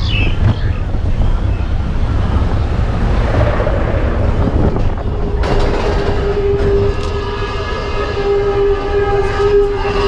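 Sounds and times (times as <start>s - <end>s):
lift hill chain hum: 0.0s - 10.0s
roller coaster train rumbling: 0.0s - 10.0s
wind buffeting the microphone: 0.0s - 10.0s.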